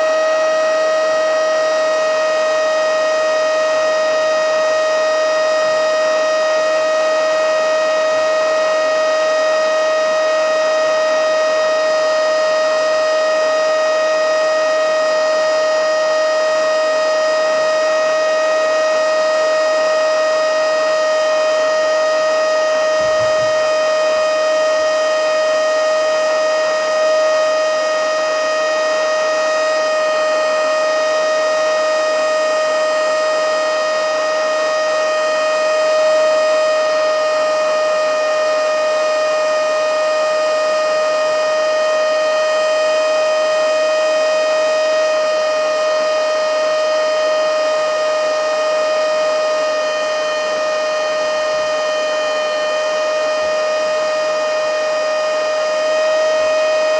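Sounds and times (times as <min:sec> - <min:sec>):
handheld vacuum motor whine: 0:00.0 - 0:56.9.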